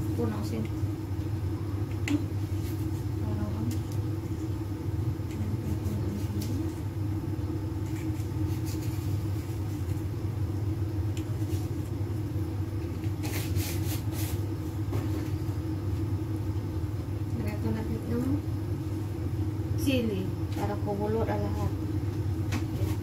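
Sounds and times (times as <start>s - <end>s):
gas burner rumble: 0.0s - 23.0s.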